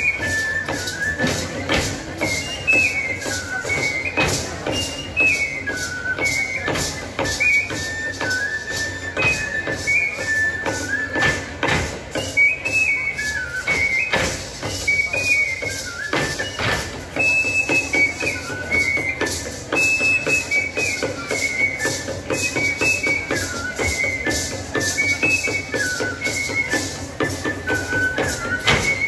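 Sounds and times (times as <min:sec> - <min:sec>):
high flute melody: 0:00.0 - 0:29.0
steady drum beats: 0:00.0 - 0:29.0.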